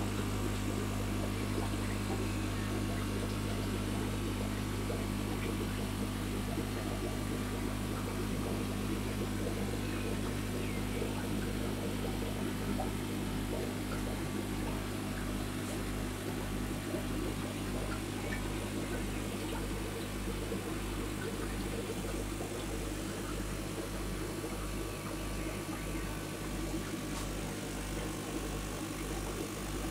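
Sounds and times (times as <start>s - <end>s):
aquarium pumps humming: 0.0s - 29.9s.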